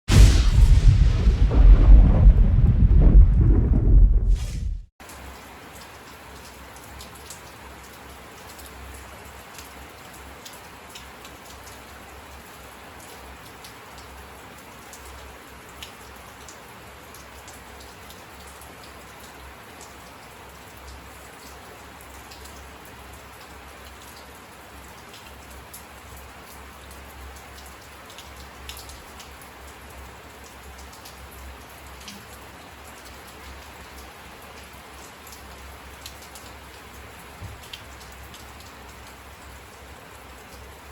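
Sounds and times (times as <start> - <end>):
steady rain falling: 0.1 - 40.9
raindrops ticking on a surface: 5.0 - 40.9.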